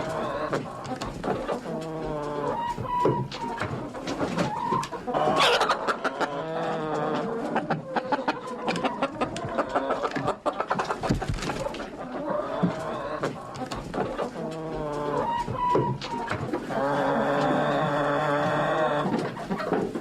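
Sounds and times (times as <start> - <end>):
scratching and rustling: 0.0 - 5.9, 7.1 - 20.0
chicken squawk: 0.0 - 20.0
chickens clucking: 0.0 - 20.0.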